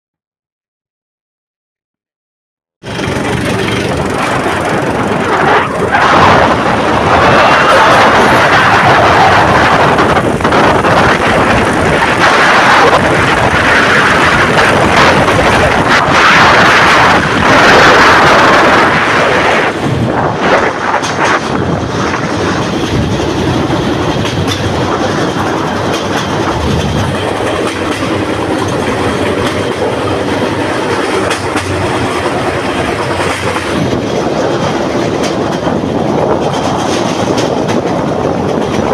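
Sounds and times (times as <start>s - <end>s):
wheels clacking on rails: 2.8s - 38.9s.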